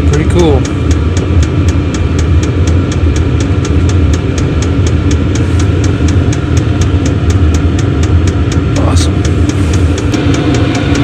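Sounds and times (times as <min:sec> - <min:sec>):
fuel pump ticking: 0:00.0 - 0:11.0
heater blower humming: 0:00.0 - 0:11.0.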